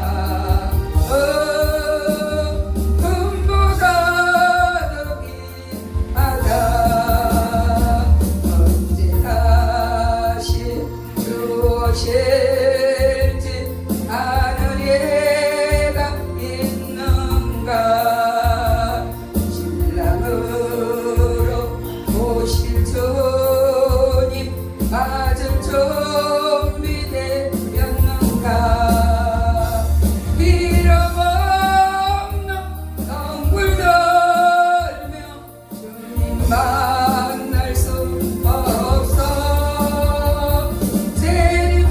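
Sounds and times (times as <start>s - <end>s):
backing music with bass line: 0.0s - 41.9s
person singing gospel song: 0.0s - 41.9s.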